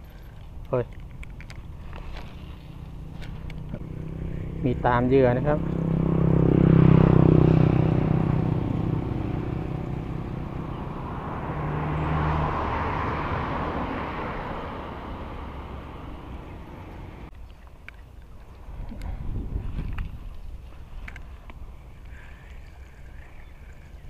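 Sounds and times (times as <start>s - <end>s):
motor vehicles passing by: 0.0s - 17.4s, 18.5s - 24.0s.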